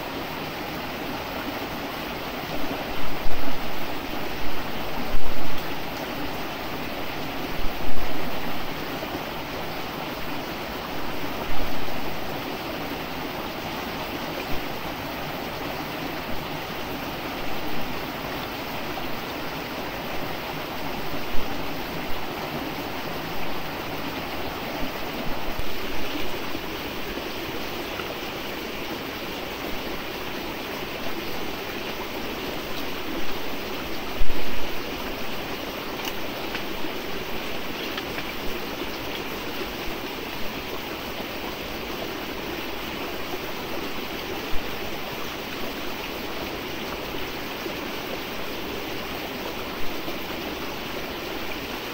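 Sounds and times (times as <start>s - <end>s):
stream running over rocks: 0.0s - 51.9s.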